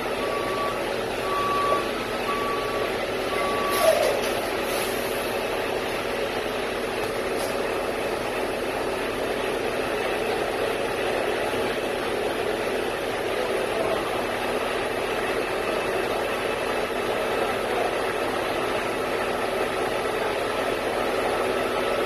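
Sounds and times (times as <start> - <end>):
cement mixer truck running: 0.0 - 22.0.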